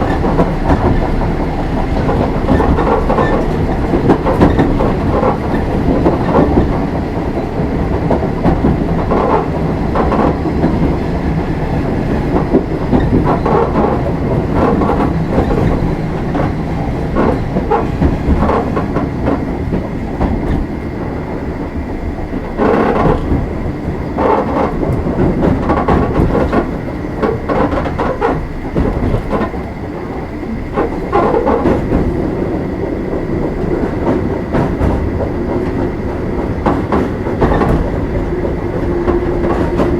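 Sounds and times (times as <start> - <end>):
train wheels rumbling: 0.0 - 39.9
wheels clattering over rail joints: 0.0 - 39.9.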